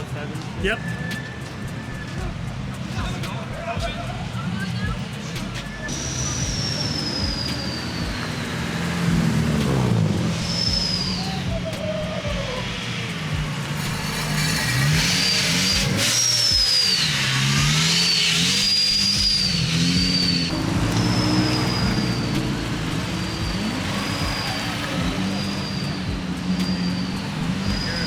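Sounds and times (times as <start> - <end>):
car engine revving: 0.0 - 28.0
high whine: 4.8 - 28.0.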